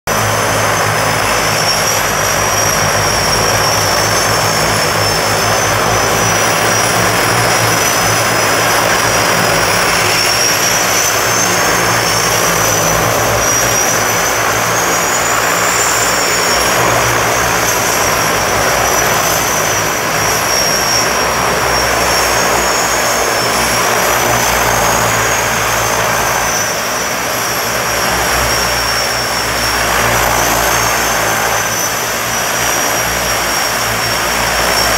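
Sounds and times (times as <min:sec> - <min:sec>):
propeller drone: 0:00.0 - 0:34.9
high turbine whine: 0:00.1 - 0:34.9.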